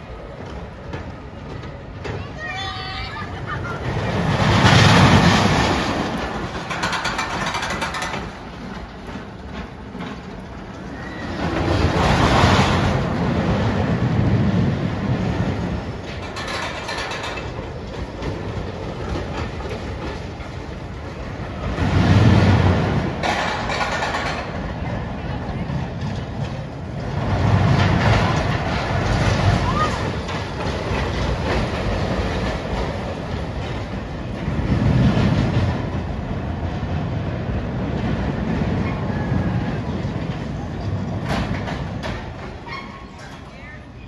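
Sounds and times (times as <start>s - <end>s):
roller coaster rumbling on track: 0.0s - 44.0s
wheels clattering: 0.0s - 44.0s.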